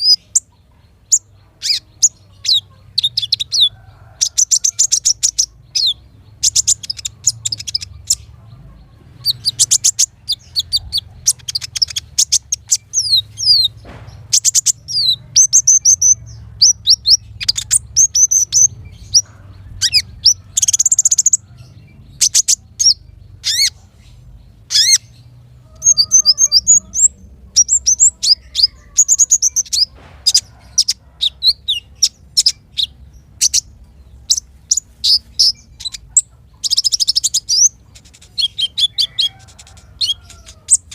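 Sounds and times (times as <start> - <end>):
small songbirds singing: 0.0 - 40.9.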